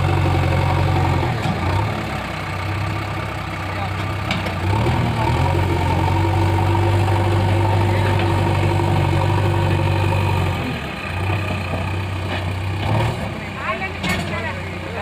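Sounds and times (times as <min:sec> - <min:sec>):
backhoe loader diesel engine running: 0:00.0 - 0:15.0.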